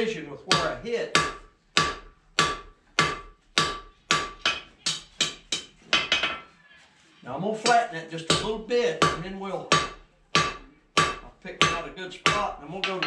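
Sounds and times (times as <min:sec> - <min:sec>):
hammer striking steel on anvil: 0:00.5 - 0:06.5, 0:07.6 - 0:13.0.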